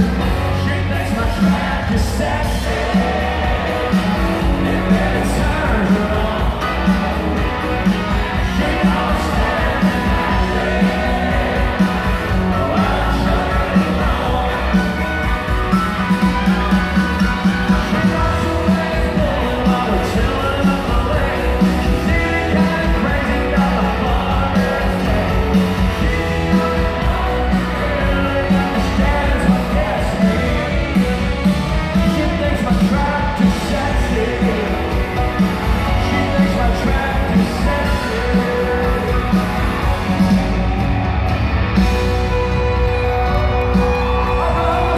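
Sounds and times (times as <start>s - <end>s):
person singing lead vocals: 0.0s - 40.3s, 43.7s - 44.9s
country-rock band playing loudly: 0.0s - 44.9s
drums keeping a steady beat: 0.0s - 44.9s
electric guitars: 0.0s - 44.9s.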